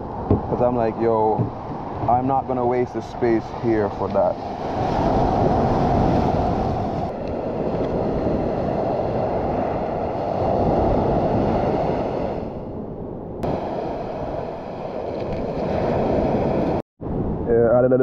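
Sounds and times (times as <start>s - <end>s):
wind rumbling on microphone: 0.0s - 18.0s
sea surf breaking on beach: 0.1s - 12.7s, 13.4s - 16.8s.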